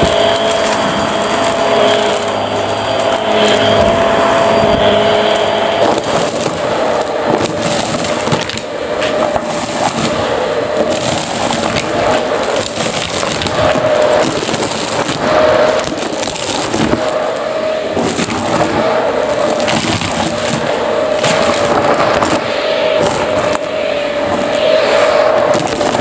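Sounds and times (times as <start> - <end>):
debris rattling through hose: 0.0 - 26.0
vacuum cleaner motor whine: 0.0 - 26.0.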